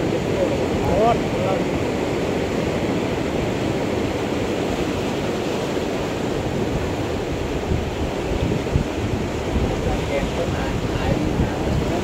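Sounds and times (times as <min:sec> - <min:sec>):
sea surf washing over rocks: 0:00.0 - 0:12.0.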